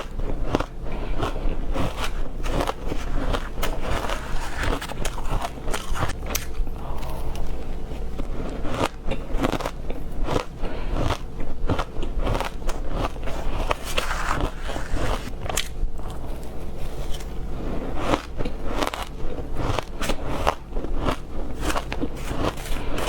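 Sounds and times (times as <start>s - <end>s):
teeth crunching frozen ice: 0.0s - 7.6s, 8.2s - 16.2s, 17.9s - 23.0s.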